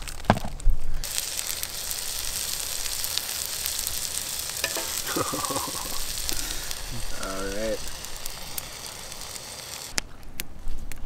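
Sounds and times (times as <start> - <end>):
patties sizzling in skillet: 1.0 - 10.0.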